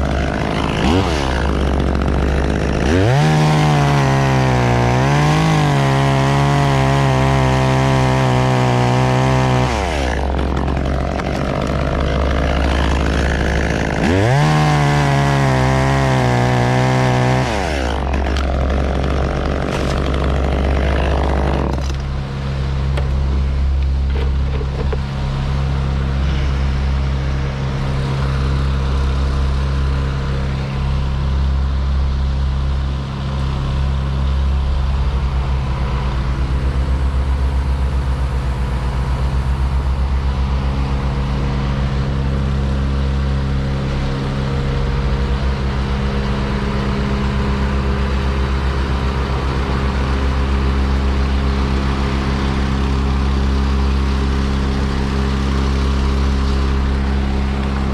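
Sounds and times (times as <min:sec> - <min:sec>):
chainsaw at full throttle: 0:00.0 - 0:31.8, 0:32.6 - 0:57.9
heavy engine running: 0:00.0 - 0:57.9.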